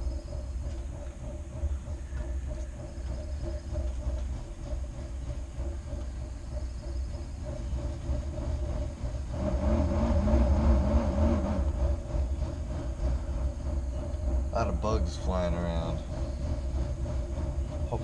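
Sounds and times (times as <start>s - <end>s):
constant hum: 0.0s - 18.0s
steady low rumble: 0.0s - 18.0s.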